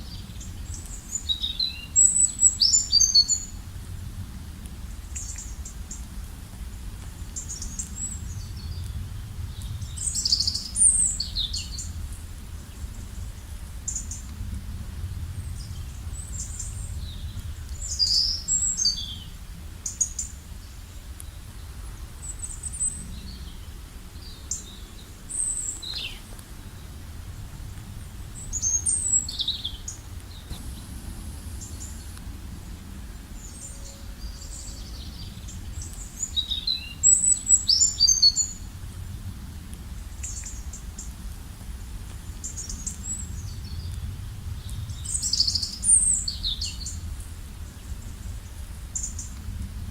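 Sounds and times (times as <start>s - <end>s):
low background rumble: 0.0s - 49.9s.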